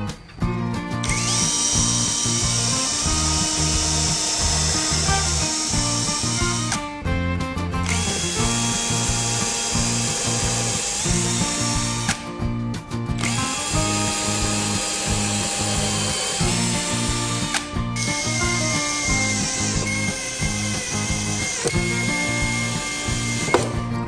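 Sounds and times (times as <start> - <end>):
power tool whirring: 0.0 - 12.4, 13.1 - 24.0
background music: 0.0 - 24.0.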